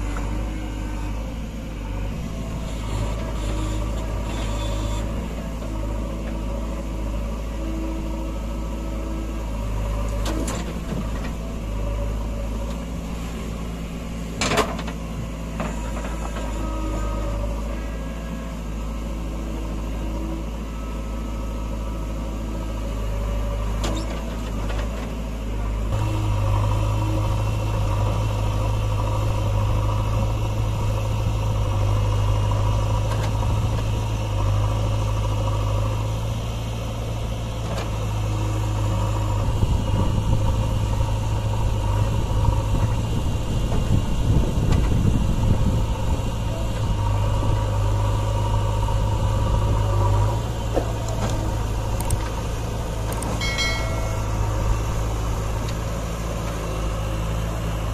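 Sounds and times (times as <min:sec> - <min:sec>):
backhoe digging soil: 0:00.0 - 0:18.7, 0:22.4 - 0:57.9
diesel engine running: 0:00.0 - 0:57.9.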